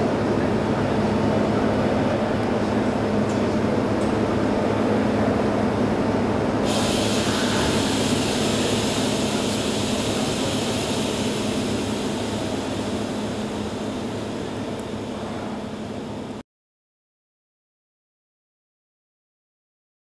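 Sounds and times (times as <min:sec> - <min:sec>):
machine mechanical drone: 0:00.1 - 0:16.4.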